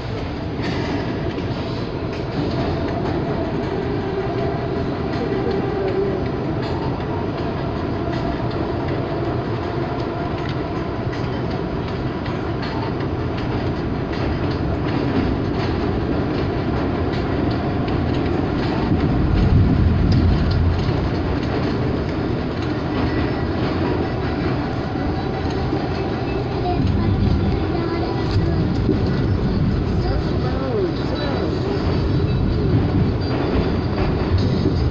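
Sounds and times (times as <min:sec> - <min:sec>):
subway train rumble and rattle: 0:00.0 - 0:34.9.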